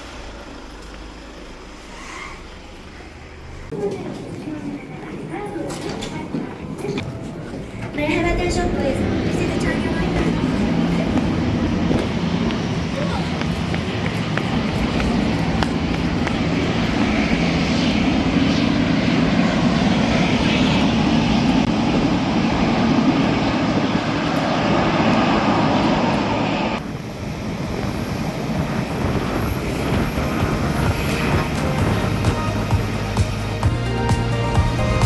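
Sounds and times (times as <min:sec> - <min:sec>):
jet engines rushing: 0:06.3 - 0:35.0.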